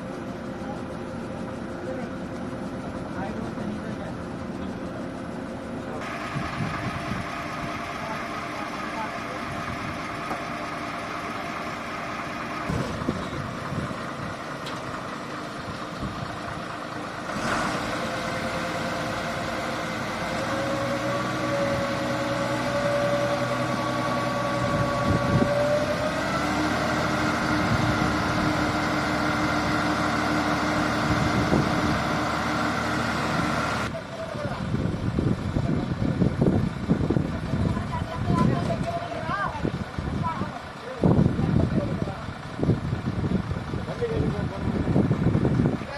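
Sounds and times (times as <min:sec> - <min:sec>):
heavy vehicle engine revving: 0:00.0 - 0:45.9.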